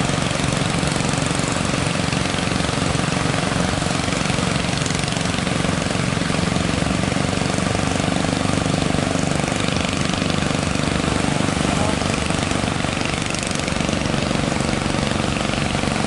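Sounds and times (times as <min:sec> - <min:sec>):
boat engine running: 0:00.0 - 0:16.0
constant rushing noise: 0:00.0 - 0:16.0.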